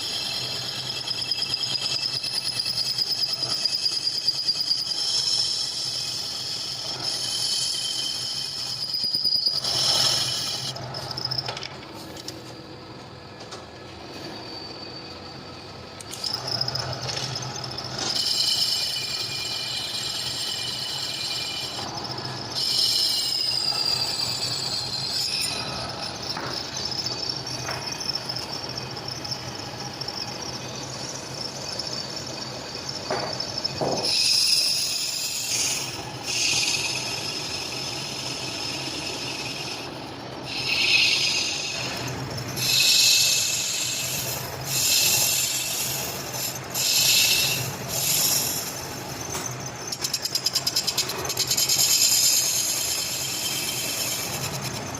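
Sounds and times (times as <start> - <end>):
metal machining squealing whine: 0.0 - 54.9.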